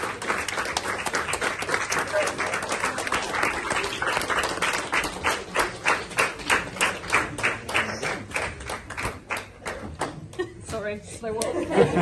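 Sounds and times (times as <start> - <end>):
people clapping in rhythm: 0.0 - 10.7.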